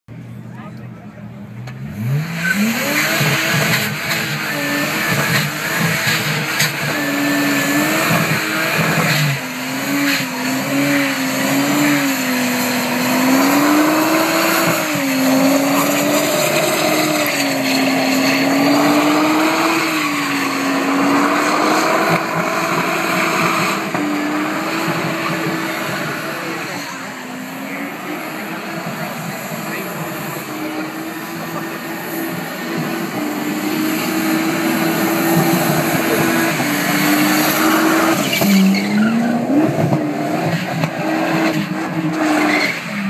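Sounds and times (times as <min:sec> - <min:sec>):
car engine revving: 0:00.1 - 0:43.0
tyres squealing: 0:02.4 - 0:39.7.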